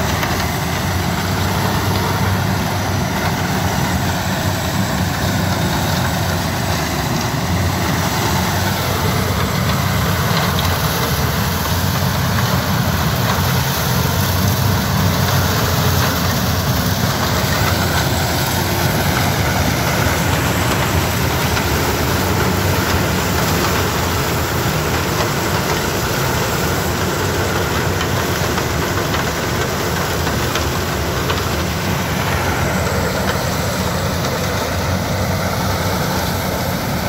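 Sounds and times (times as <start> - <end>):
harvester engine running: 0.0 - 37.0
truck diesel engine: 0.0 - 37.0.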